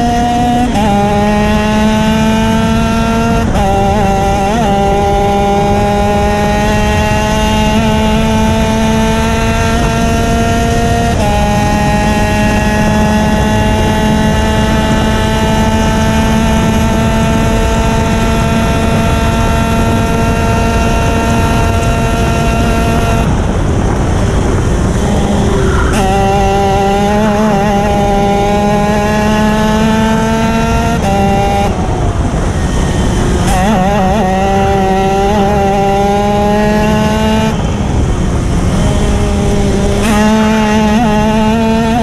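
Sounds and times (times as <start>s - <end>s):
kart engine at high revs: 0.0s - 42.0s
wind and road noise: 0.0s - 42.0s.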